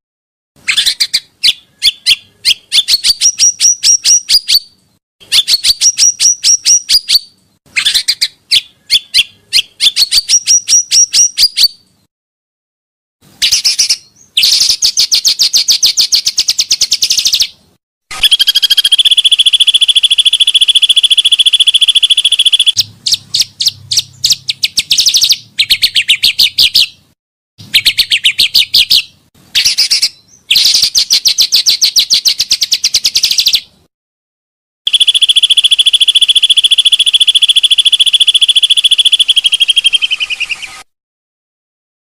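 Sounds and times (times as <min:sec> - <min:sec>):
bird song trills: 0:00.6 - 0:12.1, 0:13.4 - 0:33.8, 0:34.9 - 0:40.9.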